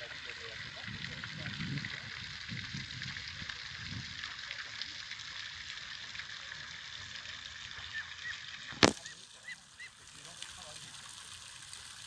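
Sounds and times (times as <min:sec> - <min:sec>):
water birds calling faintly: 0:00.0 - 0:12.0.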